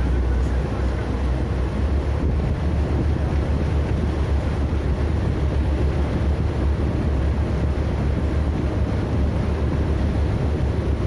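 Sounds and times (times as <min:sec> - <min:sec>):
boat engine rumble: 0:00.0 - 0:11.0
water rushing past hull: 0:00.0 - 0:11.0
wind buffeting microphone: 0:00.0 - 0:11.0.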